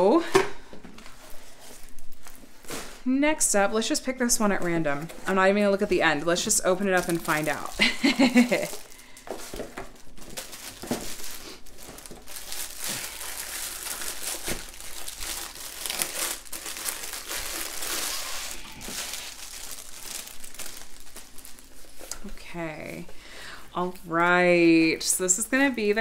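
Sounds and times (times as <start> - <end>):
plastic wrapping crinkling: 0.0 - 23.2.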